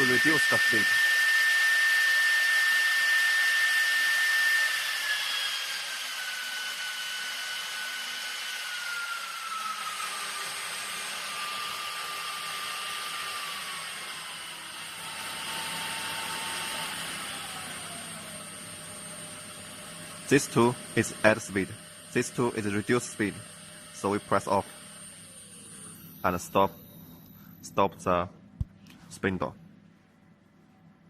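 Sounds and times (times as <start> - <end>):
router spindle motor whining: 0.0 - 27.6.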